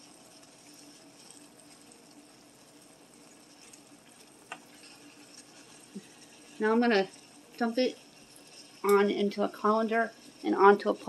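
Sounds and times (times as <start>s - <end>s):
faint steady hum: 0.0s - 11.0s
wooden spoon stirring stir fry: 0.0s - 11.0s.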